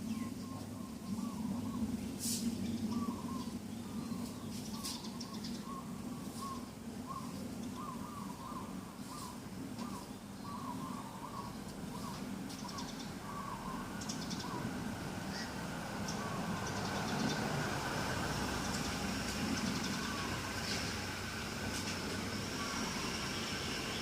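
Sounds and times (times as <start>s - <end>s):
birds chirping: 0.0s - 24.0s
steady low hum: 0.0s - 24.0s.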